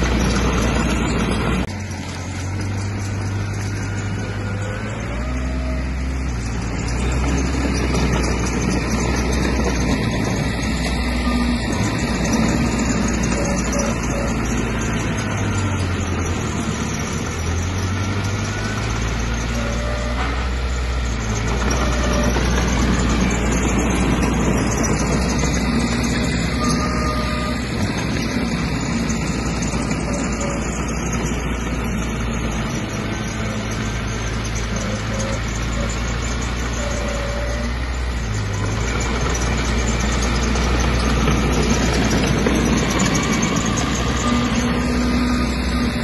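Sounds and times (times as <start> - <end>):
heavy machinery diesel engine running: 0.0 - 46.0.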